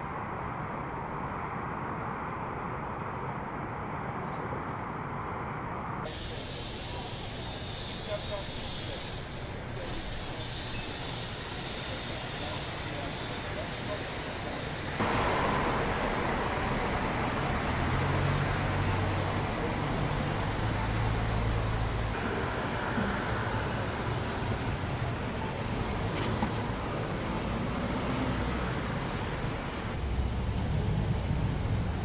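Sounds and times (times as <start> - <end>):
tyres and air rushing: 5.0 - 32.0.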